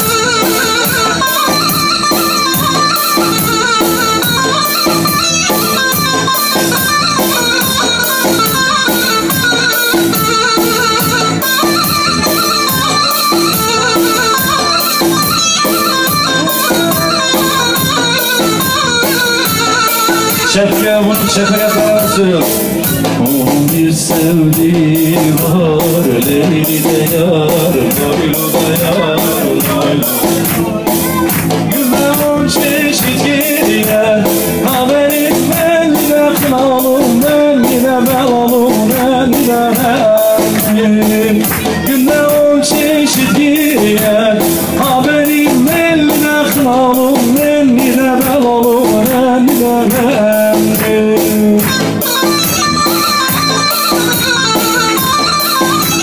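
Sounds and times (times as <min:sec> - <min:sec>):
electronic keyboard melody: 0:00.0 - 0:56.0
fast drum beat: 0:00.0 - 0:56.0.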